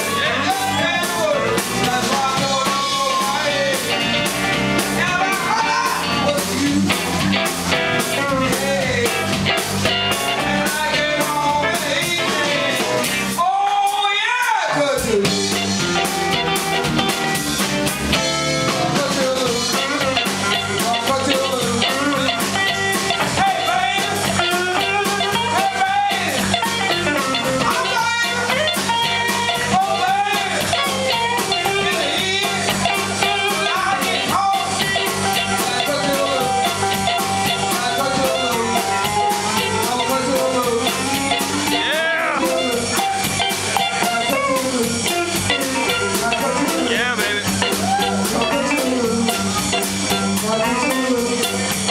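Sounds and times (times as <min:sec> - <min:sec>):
blues band playing: 0:00.0 - 0:51.9.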